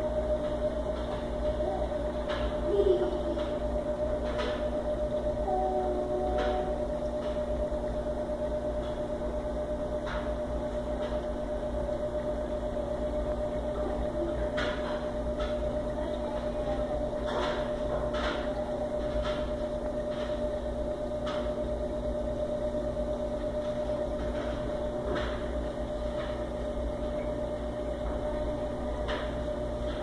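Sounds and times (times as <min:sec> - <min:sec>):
aquarium pump humming: 0:00.0 - 0:30.0.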